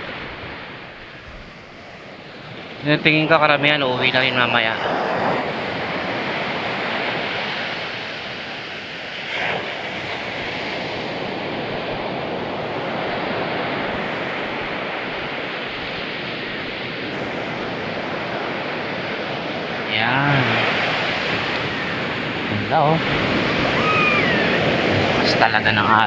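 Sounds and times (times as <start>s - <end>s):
surf breaking on sand beach: 0.0s - 26.0s
wind on microphone: 0.0s - 26.0s.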